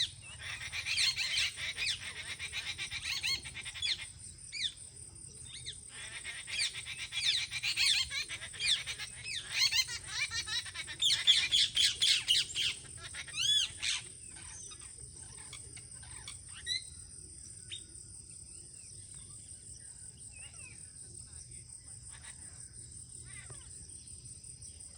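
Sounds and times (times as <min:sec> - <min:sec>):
birds chirping: 0:00.0 - 0:24.9
high insect drone: 0:00.0 - 0:24.9.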